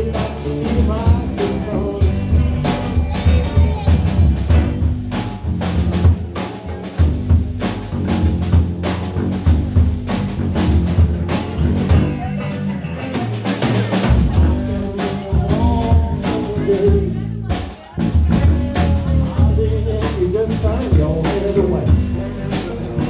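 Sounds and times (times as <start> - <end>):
drum kit beat: 0.0 - 23.0
live band playing: 0.0 - 23.0.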